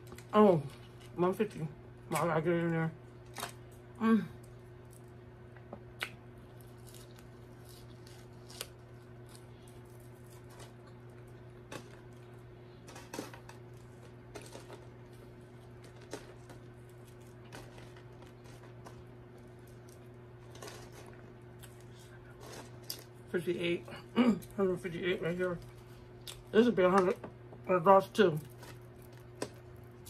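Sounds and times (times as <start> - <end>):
chewing fries: 3.0 - 27.2, 28.2 - 30.0.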